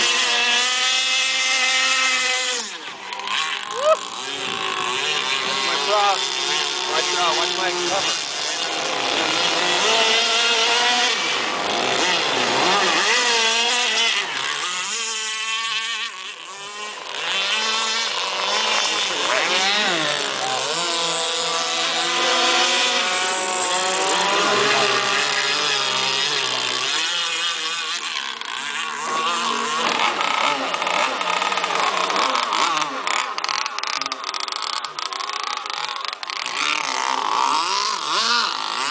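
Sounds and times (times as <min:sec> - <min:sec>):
rc boat engine at high revs: 0:00.0 - 0:38.9.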